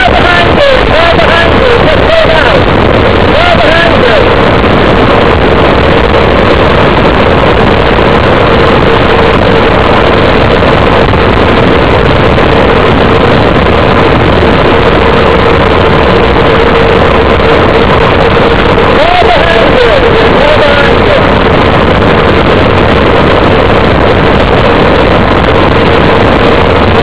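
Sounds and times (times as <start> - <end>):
steady hum: 0.0 - 27.0
wind roar on microphone: 0.0 - 27.0.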